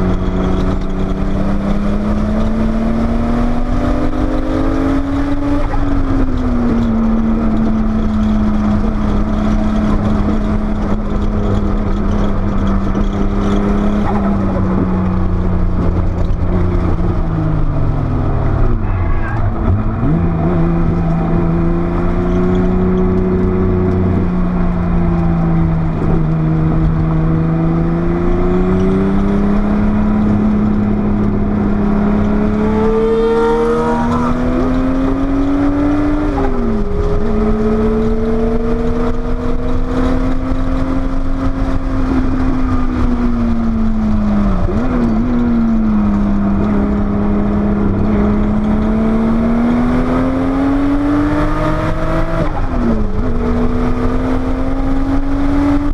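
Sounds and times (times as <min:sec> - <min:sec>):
car engine running hard: 0:00.0 - 0:55.9.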